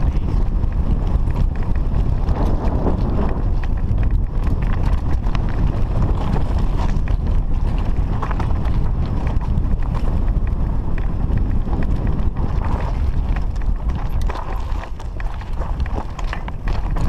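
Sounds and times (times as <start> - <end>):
bike rattling: 0.0 - 17.0
bike tyres clattering over stones: 0.0 - 17.0
wind buffeting microphone: 0.0 - 17.0.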